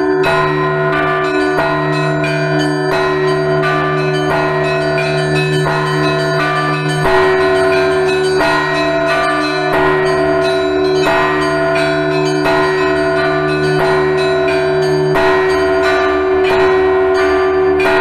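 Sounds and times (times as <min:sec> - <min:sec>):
church bells ringing a peal: 0:00.0 - 0:18.0
hum of low bells: 0:00.0 - 0:18.0.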